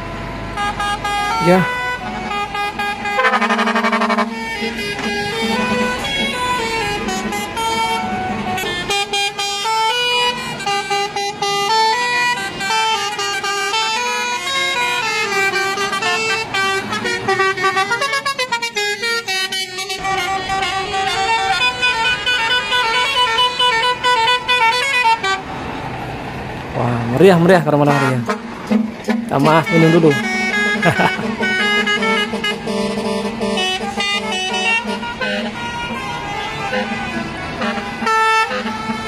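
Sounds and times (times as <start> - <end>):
lorry air horn playing a tune: 0.5 - 25.4, 27.9 - 39.0.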